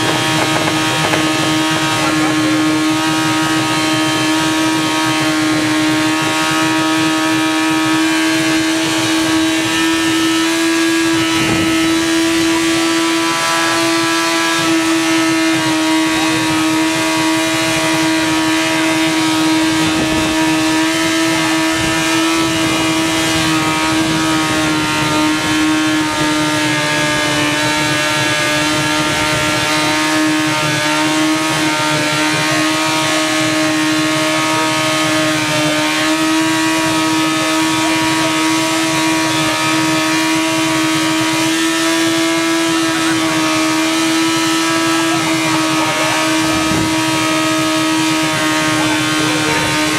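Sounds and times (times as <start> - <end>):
motorcycle engine running flat out: 0.0 - 49.9.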